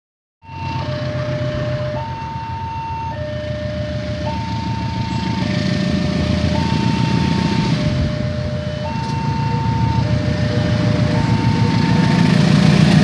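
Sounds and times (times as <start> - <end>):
level crossing two-tone alarm: 0.4 - 12.6
low engine rumble: 0.5 - 13.0.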